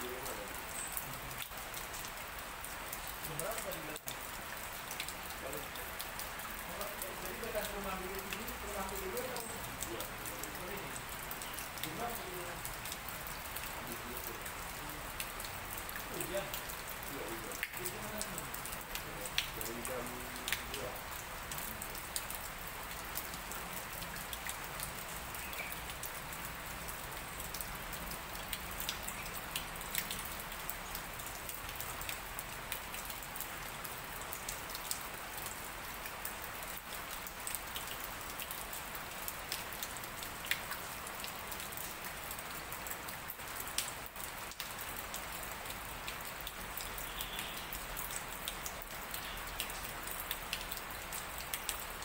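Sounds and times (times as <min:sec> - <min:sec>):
raindrops ticking: 0:00.0 - 0:52.0
steady light rain: 0:00.0 - 0:52.0.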